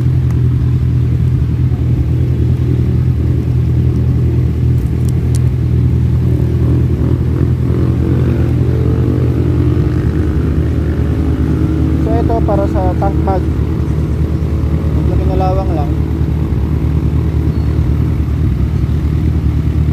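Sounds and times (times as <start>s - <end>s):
motorcycle engine idling: 0.0s - 19.9s
other vehicle engines: 0.0s - 19.9s.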